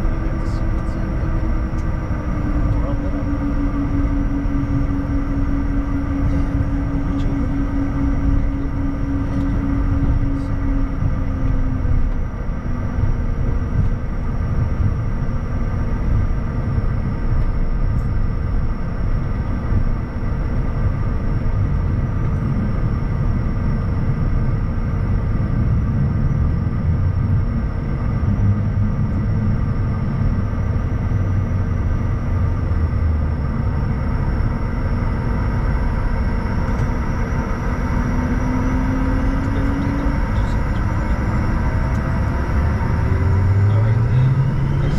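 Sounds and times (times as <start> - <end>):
jet engines rumbling and whining: 0.0 - 44.9.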